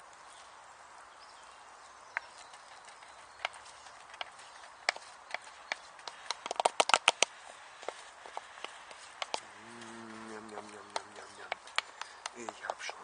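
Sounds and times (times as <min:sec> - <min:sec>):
wood fire crackling and popping: 0:02.2 - 0:13.0.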